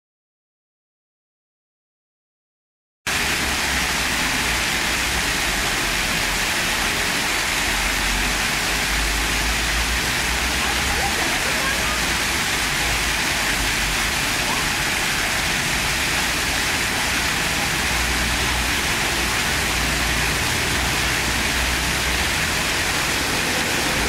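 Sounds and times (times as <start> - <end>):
fountain water splashing into pool: 3.1 - 24.0.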